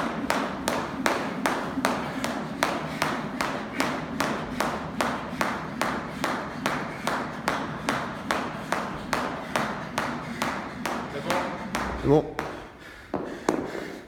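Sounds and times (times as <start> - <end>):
jump rope slapping rubber floor: 0.0 - 14.0.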